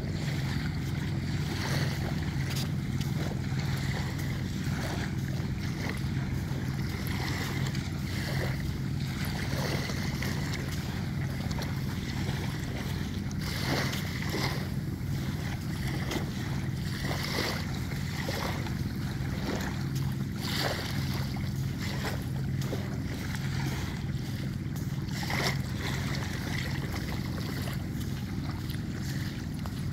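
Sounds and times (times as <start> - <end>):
constant low hum: 0.0 - 29.9
small surf on beach: 0.0 - 29.9
wind: 0.0 - 29.9.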